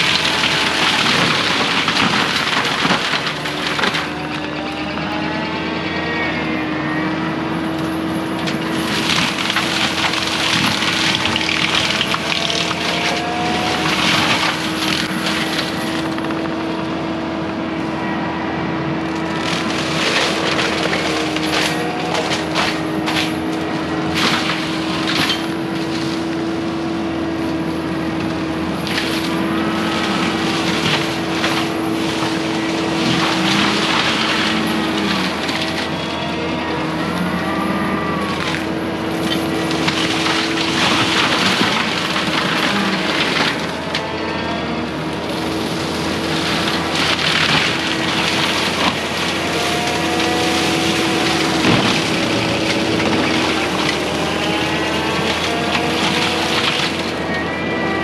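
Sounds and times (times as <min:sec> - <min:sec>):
wood crackling and snapping: 0:00.0 - 0:05.2, 0:07.8 - 0:17.6, 0:19.0 - 0:26.6, 0:27.9 - 0:36.2, 0:37.9 - 0:44.1, 0:45.2 - 0:57.2
mulcher engine drone: 0:00.0 - 0:58.0.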